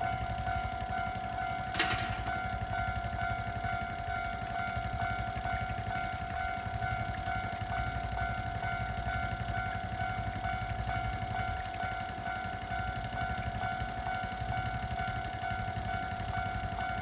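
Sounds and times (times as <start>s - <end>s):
level-crossing warning bell: 0.0s - 17.0s.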